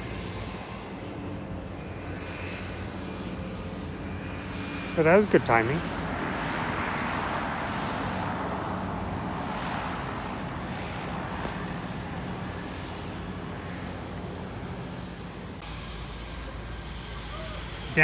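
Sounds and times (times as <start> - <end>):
floatplane engines humming: 0.0 - 18.0.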